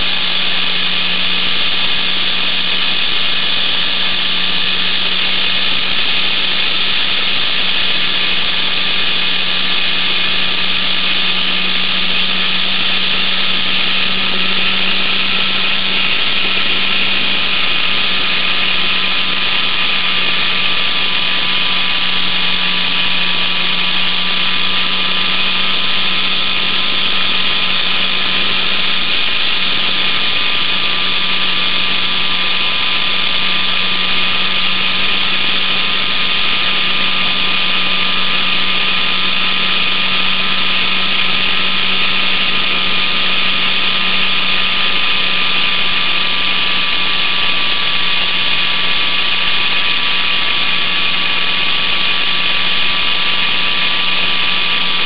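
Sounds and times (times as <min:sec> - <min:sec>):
model plane motor humming: 0:00.0 - 0:55.0.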